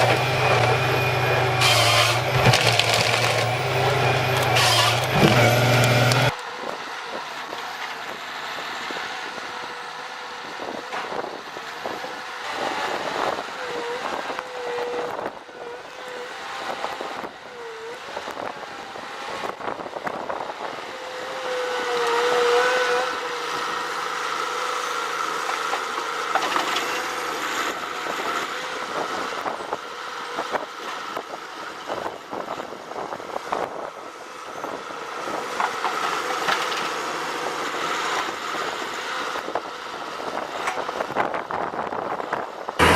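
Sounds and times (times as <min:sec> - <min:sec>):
tree-felling machinery whining: 0:00.0 - 0:42.9.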